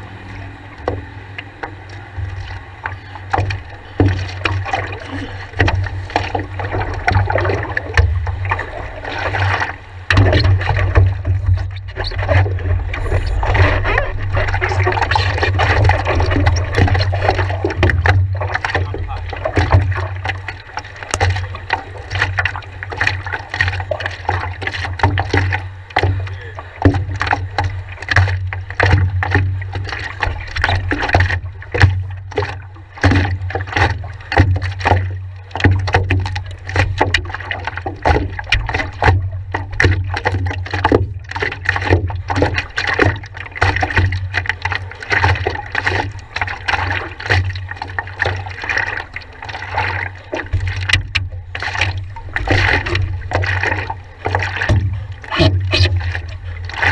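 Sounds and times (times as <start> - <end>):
steady low rumble: 0.0 - 40.2, 45.6 - 56.9
water slapping against paddleboard: 0.0 - 56.9.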